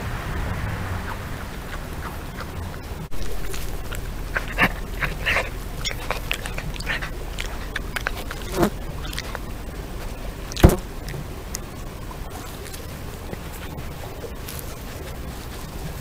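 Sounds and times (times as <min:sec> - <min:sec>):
animal rustling through grass: 0:01.0 - 0:16.0.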